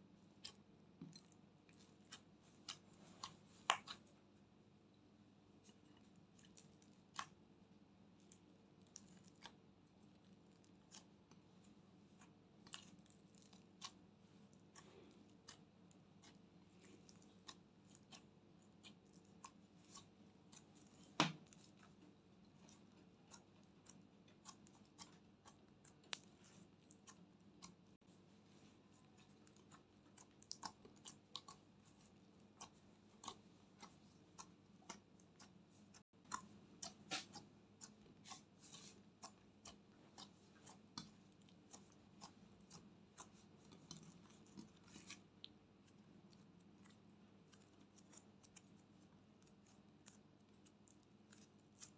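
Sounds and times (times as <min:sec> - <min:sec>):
hands squishing sticky slime: 0:00.2 - 0:04.4, 0:05.4 - 0:51.9.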